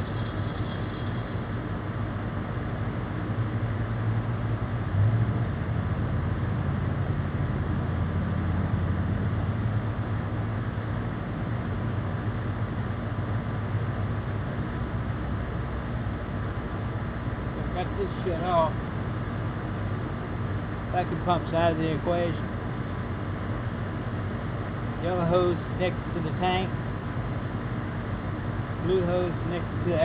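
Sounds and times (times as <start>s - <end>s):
constant noisy hiss: 0.0s - 30.0s.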